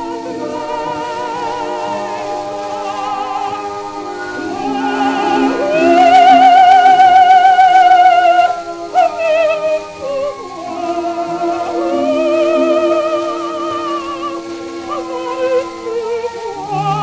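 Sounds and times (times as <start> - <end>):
record surface hiss: 0.0 - 17.0
sustained accompaniment: 0.0 - 17.0
woman singing opera: 0.0 - 17.0.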